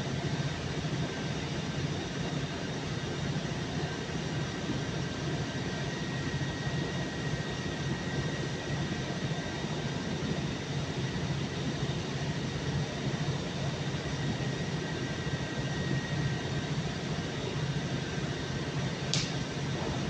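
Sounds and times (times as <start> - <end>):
machinery low hum: 0.0 - 20.0.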